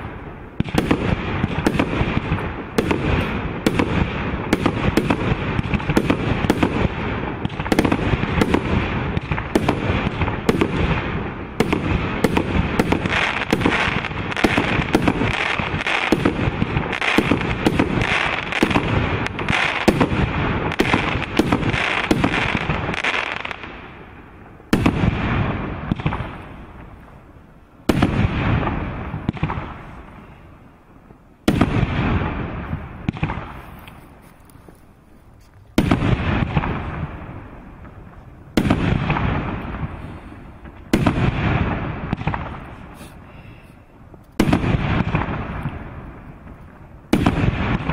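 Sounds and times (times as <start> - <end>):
loud firework bangs: 0.0 - 30.7, 31.4 - 34.2, 35.7 - 47.9
fireworks firing: 0.0 - 47.9.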